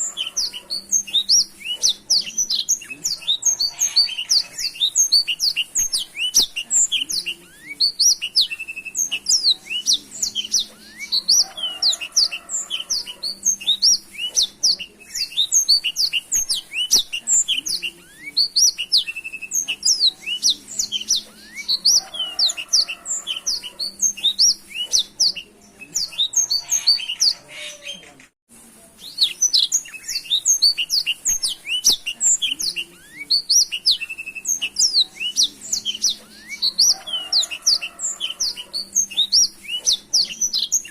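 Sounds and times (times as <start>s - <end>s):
bird singing rapid chirps: 0.0s - 28.0s, 29.0s - 40.9s.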